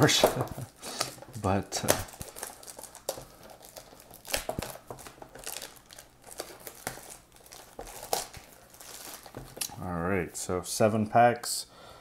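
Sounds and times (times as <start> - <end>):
plastic shrink-wrap tearing: 0.0 - 9.8.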